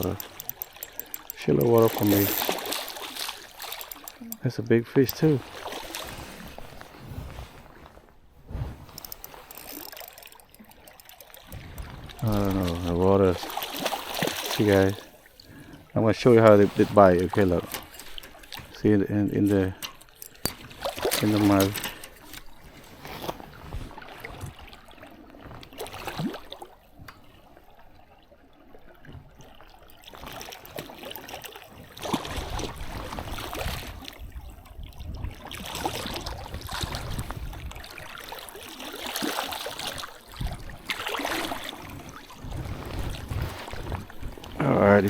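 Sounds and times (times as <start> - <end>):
stream water running and splashing: 0.0 - 8.2, 8.9 - 45.0.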